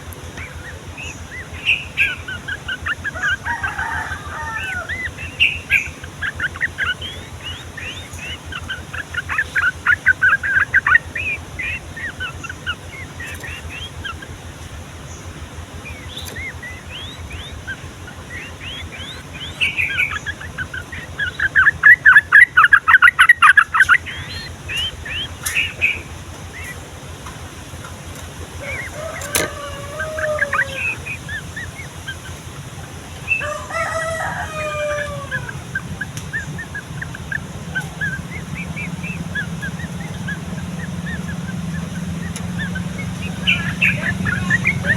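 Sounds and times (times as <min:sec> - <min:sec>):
bird singing chirped phrases: 0:00.0 - 0:27.0, 0:28.5 - 0:44.9
low drawn-out bird call: 0:00.0 - 0:44.9.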